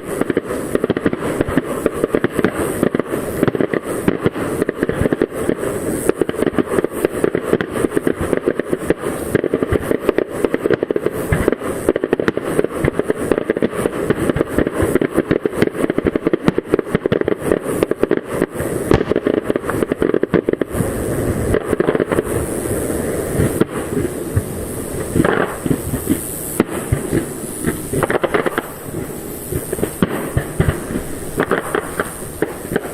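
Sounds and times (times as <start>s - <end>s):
fireworks bursts and crackling: 0.0s - 32.9s.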